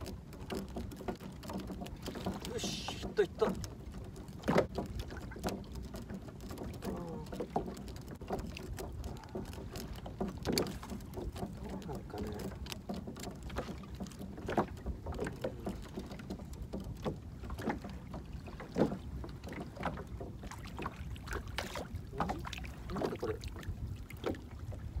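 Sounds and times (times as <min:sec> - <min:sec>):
waves lapping against boat hull: 0:00.0 - 0:25.0.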